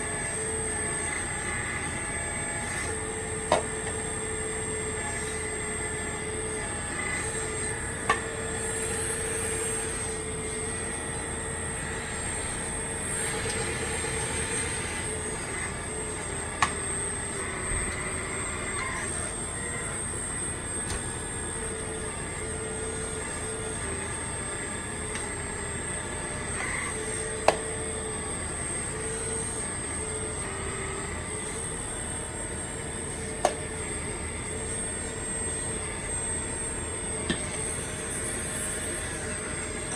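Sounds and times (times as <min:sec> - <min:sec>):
model excavator mechanical whine: 0:00.0 - 0:39.9.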